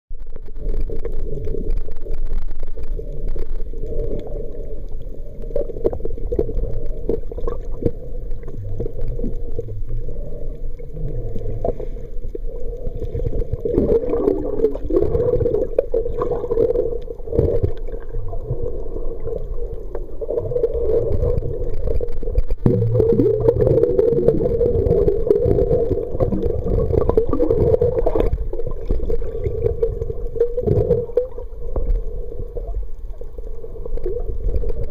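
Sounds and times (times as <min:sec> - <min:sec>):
underwater wavering drone: 0:00.1 - 0:34.9.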